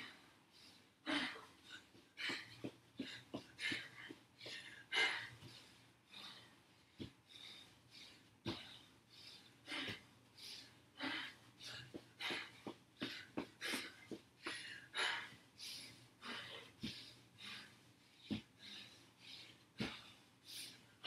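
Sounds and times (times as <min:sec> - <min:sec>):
woman breathing hard: 0:00.0 - 0:21.0.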